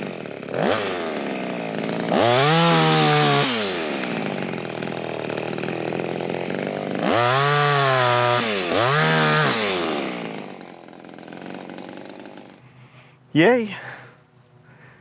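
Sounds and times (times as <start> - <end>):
chainsaw idling and revving: 0.0 - 13.3.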